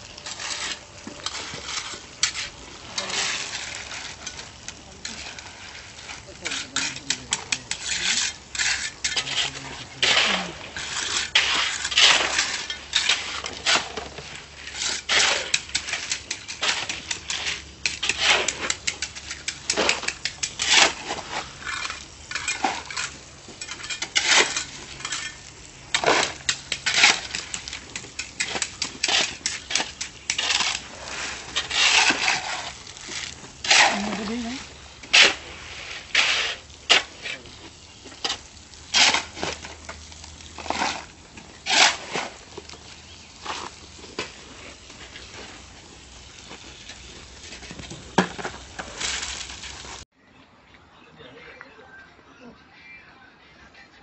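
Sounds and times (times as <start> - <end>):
metal tools scraping gravel and concrete: 0.0 - 50.1.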